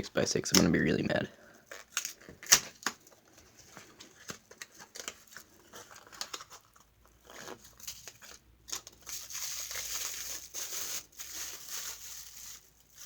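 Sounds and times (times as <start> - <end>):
packaging rustling and crinkling: 1.5 - 13.0.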